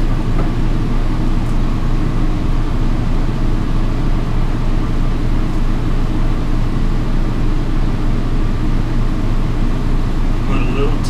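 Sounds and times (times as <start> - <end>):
machinery drone: 0.0 - 11.0.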